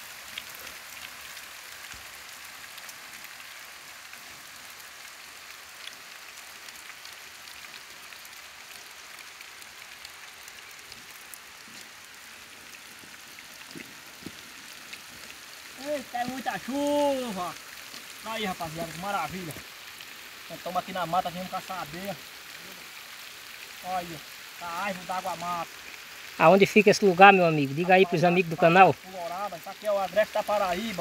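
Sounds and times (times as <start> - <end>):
heavy rain on foliage: 0.0 - 31.0
rain drop ticks: 0.0 - 31.0.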